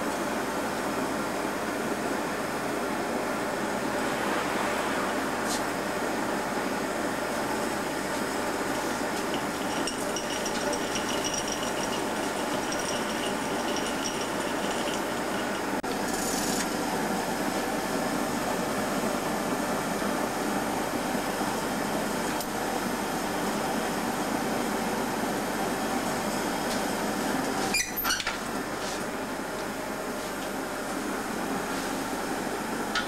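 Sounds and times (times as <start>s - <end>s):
furnace roaring: 0.0s - 33.0s.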